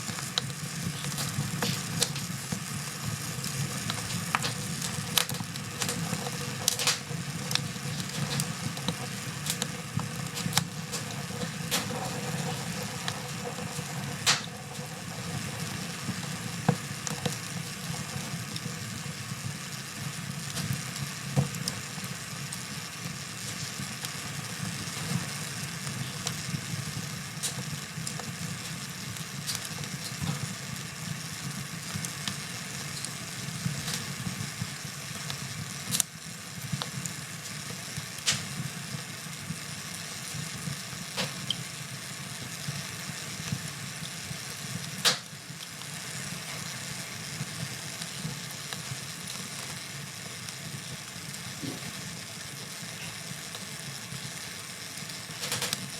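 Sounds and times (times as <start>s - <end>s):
fire crackling and popping: 0.0s - 55.9s
wood fire rumbling: 0.0s - 55.9s.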